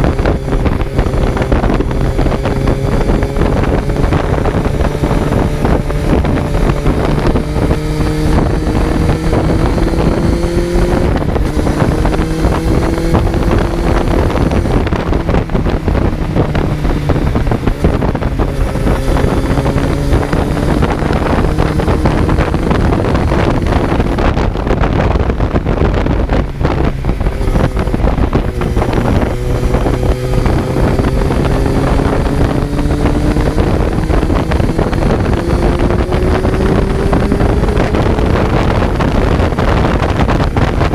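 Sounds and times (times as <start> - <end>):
motorcycle engine accelerating: 0.0 - 40.9
wind rushing over microphone: 0.0 - 40.9.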